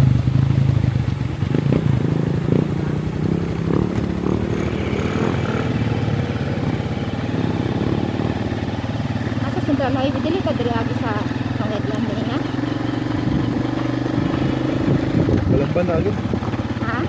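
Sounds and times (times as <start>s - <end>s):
small motorcycle engines running: 0.0s - 17.0s.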